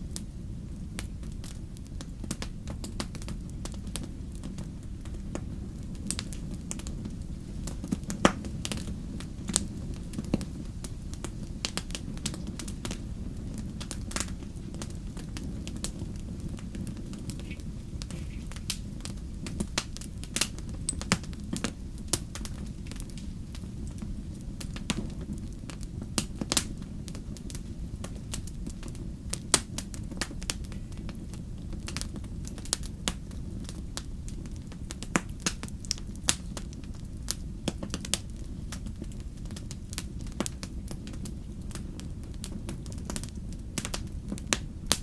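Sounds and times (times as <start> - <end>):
fire crackling in a fireplace: 0.0 - 45.0.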